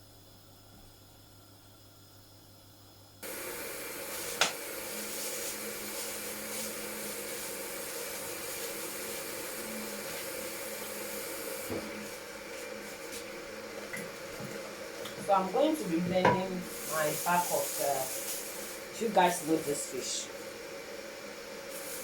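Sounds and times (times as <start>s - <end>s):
kitchen appliance whooshing hiss: 3.2s - 22.0s.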